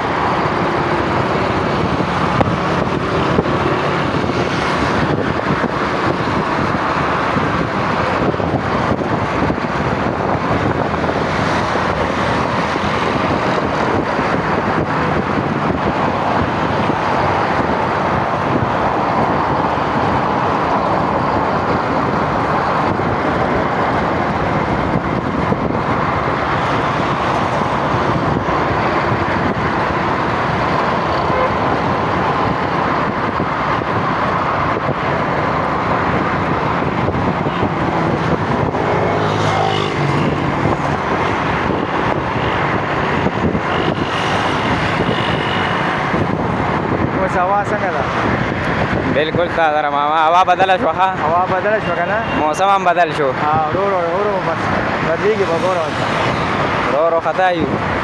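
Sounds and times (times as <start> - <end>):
vehicle road noise: 0.0 - 58.0.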